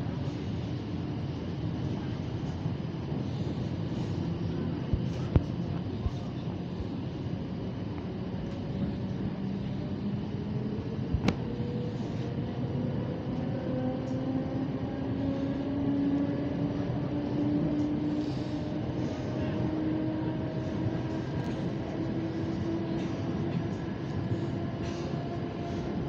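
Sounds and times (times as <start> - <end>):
train rumbling inside carriage: 0.0 - 26.0.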